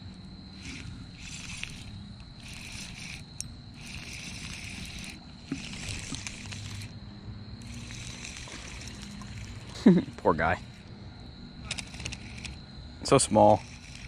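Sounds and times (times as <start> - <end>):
insects calling: 0.0 - 14.0.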